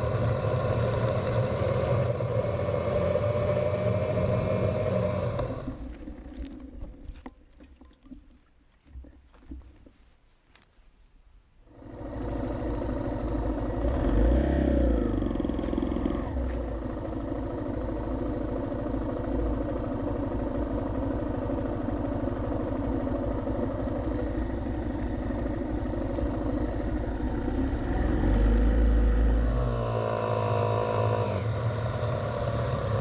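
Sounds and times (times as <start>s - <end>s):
motorcycle engine running: 0.0s - 7.3s, 11.7s - 33.0s
road noise: 0.0s - 7.8s, 11.6s - 33.0s.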